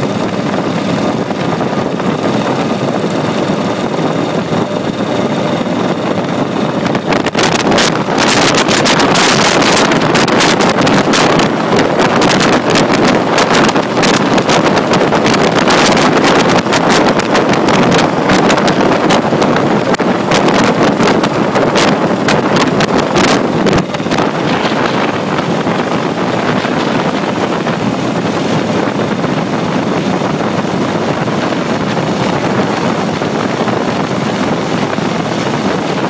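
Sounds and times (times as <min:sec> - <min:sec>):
motorcycle engines running: 0:00.0 - 0:36.0
wind buffeting microphone: 0:00.0 - 0:36.0.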